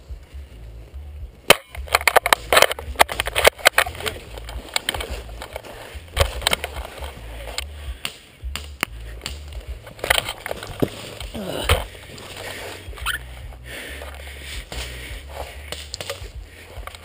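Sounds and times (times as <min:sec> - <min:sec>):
low handling rumble: 0:00.0 - 0:17.0
rustling of dry leaves and clothing: 0:00.0 - 0:17.0.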